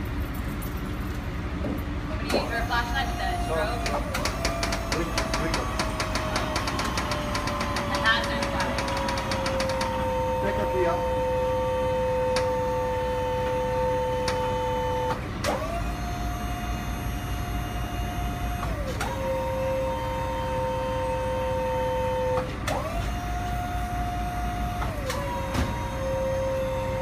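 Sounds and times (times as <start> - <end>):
hydraulic pump whining: 1.6 - 27.0.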